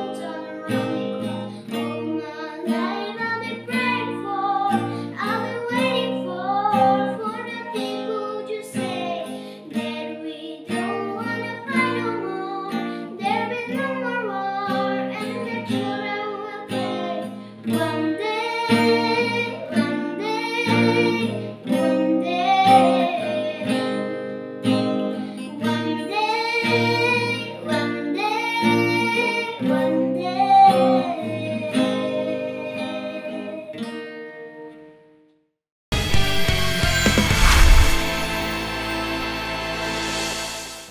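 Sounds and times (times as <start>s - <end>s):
girl singing: 0.0s - 34.9s
acoustic guitar: 0.0s - 40.9s.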